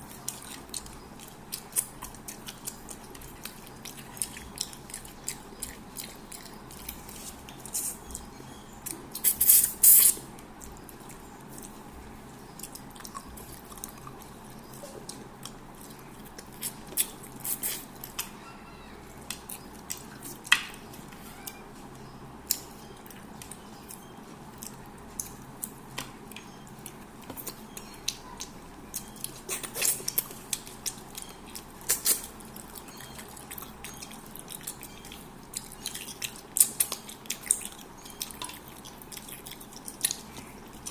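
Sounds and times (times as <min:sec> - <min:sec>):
person chewing and mouth smacks: 0:00.1 - 0:18.4, 0:19.0 - 0:21.8, 0:22.4 - 0:40.9.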